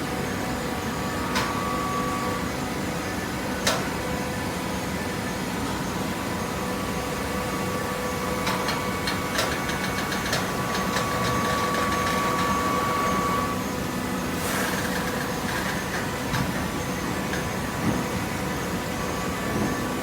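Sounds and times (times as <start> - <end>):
hydraulic baler hum and whine: 0.0 - 20.0.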